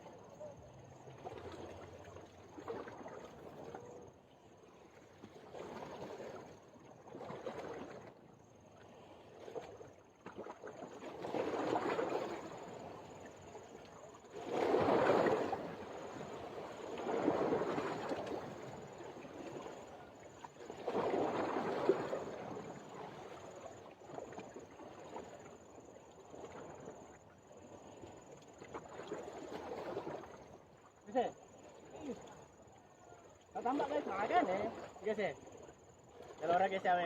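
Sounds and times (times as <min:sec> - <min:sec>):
water washing in swells: 0:00.0 - 0:37.0.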